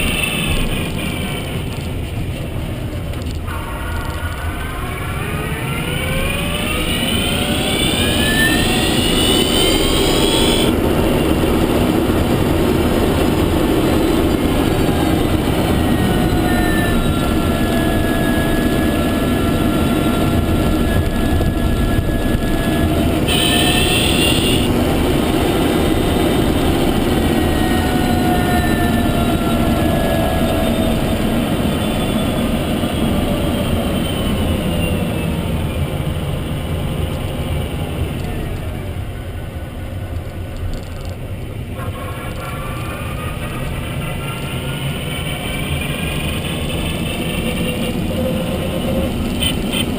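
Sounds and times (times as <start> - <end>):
road and tyre noise: 0.0 - 49.9.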